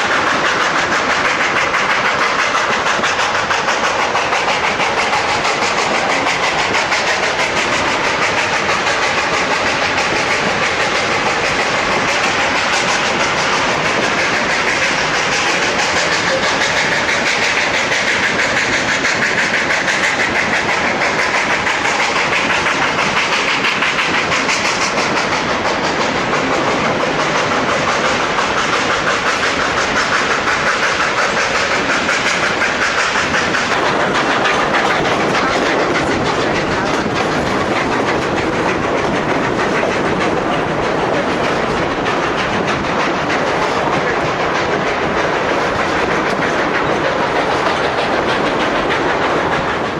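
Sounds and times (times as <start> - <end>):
train wheels clattering on rails: 0.0 - 49.9.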